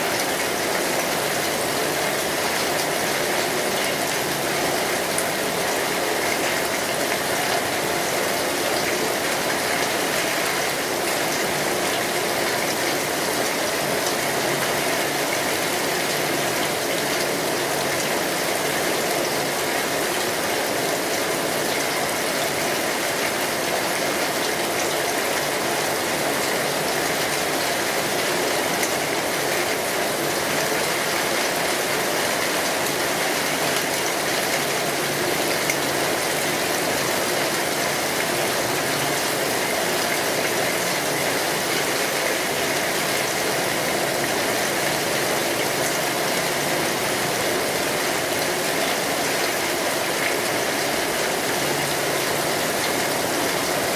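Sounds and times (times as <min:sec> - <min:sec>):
rain falling on a street: 0:00.0 - 0:53.9.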